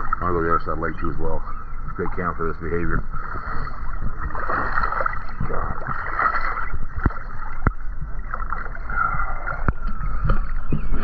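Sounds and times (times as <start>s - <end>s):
low rumble on microphone: 0.0s - 11.0s
water sloshing and lapping: 0.0s - 11.0s.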